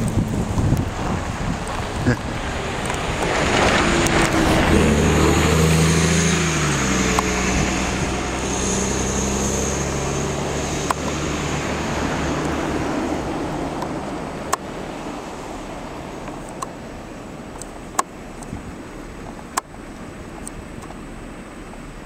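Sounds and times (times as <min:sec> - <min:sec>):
bus diesel engine pulling away: 0:00.0 - 0:17.9.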